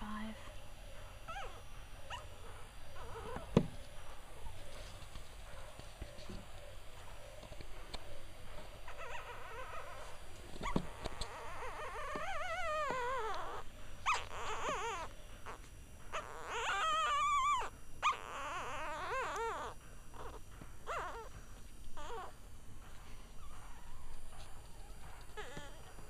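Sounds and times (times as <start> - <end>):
puppies crying: 0.4 - 26.0.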